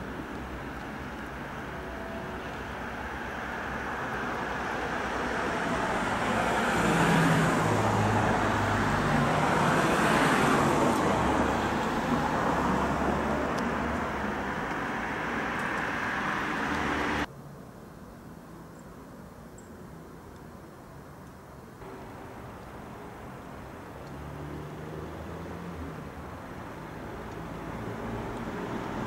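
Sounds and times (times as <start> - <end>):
vehicle passing rumble: 0.0 - 17.3, 21.8 - 29.0.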